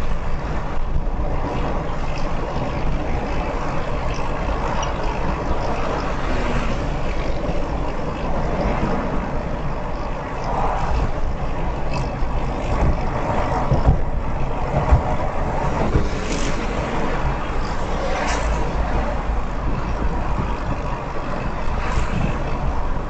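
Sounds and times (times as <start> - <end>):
tyre road noise: 0.0 - 23.0.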